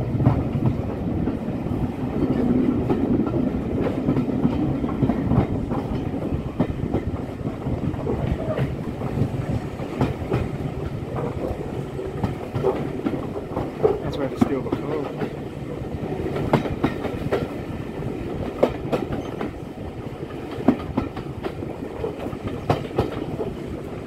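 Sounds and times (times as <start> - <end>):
train coaches rumbling: 0.0 - 24.0.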